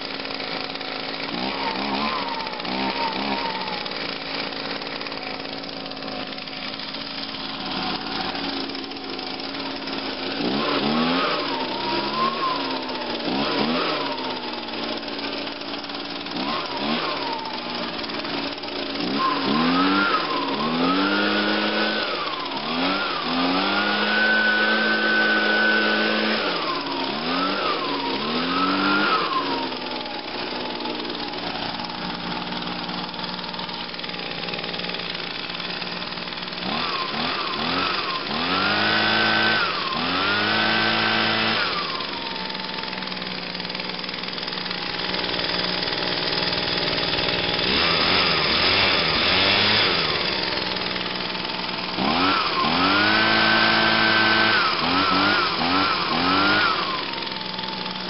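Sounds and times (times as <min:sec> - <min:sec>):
leaf blower revving and idling: 0:00.0 - 0:58.0.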